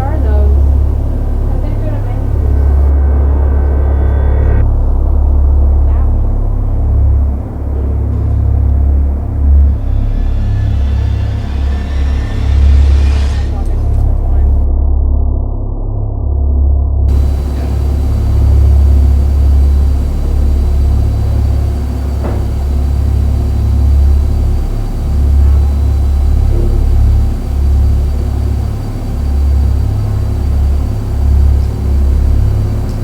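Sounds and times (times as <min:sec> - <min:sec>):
deep low rumble: 0:00.0 - 0:33.0.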